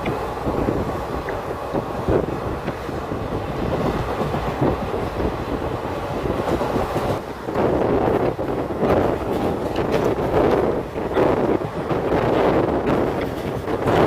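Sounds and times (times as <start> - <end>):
train coach rumble: 0.0 - 14.0
wheels clattering over rails: 0.0 - 14.0.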